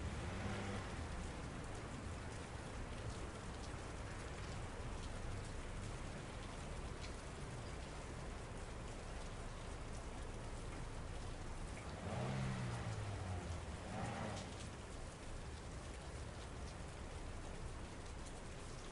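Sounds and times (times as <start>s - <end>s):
rain falling: 0.0s - 18.9s
raindrops ticking: 0.0s - 18.9s.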